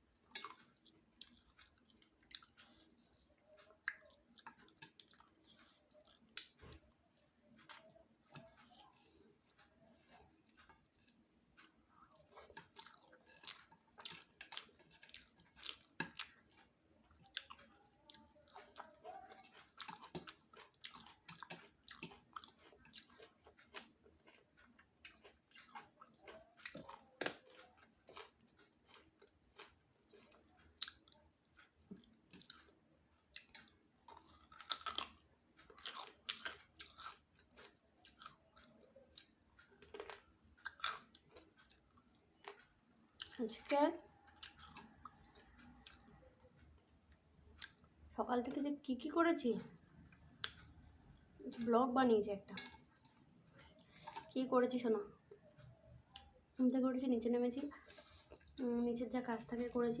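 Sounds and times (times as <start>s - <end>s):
person chewing food: 0.0s - 48.2s, 49.7s - 51.7s, 52.5s - 54.4s, 55.1s - 56.6s, 57.6s - 58.7s.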